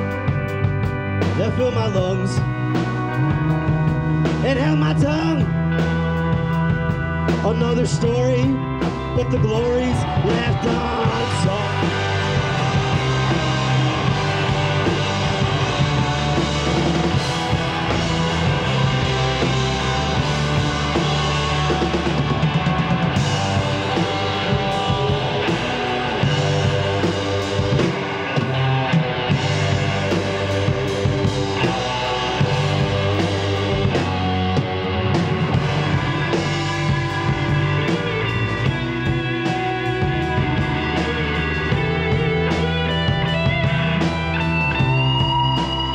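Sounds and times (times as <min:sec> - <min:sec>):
distorted electric guitars: 0:00.0 - 0:45.9
drum kit: 0:00.0 - 0:45.9
electric bass: 0:00.0 - 0:45.9.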